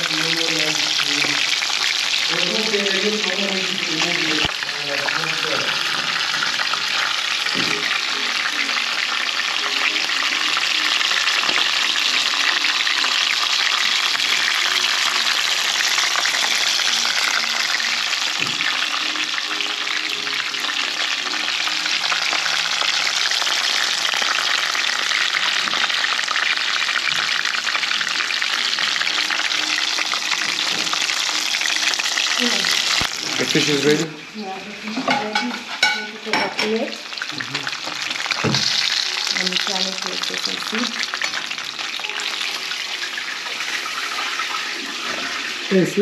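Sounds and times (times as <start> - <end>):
fish sizzling in hot oil: 0.0 - 46.0.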